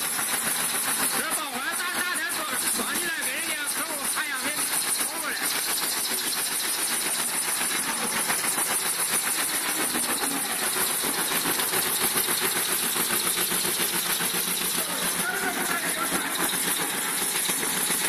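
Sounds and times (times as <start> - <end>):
wood shaving machine running: 0.0 - 18.0.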